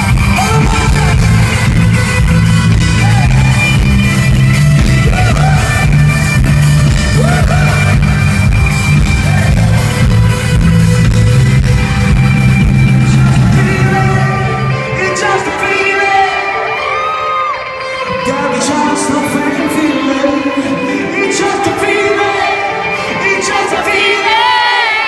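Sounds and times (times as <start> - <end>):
person singing: 0.0 - 10.5, 12.9 - 25.0
live rock band playing: 0.0 - 24.3.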